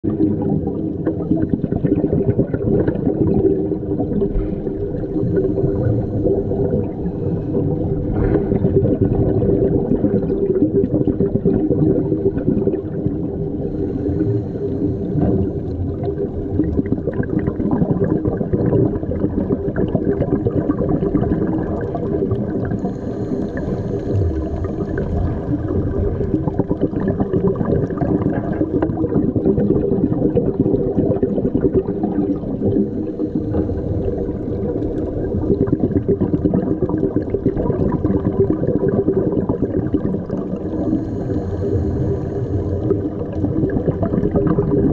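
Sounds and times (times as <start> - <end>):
underwater low hum: 0.0 - 44.9
underwater crackling: 0.1 - 44.9.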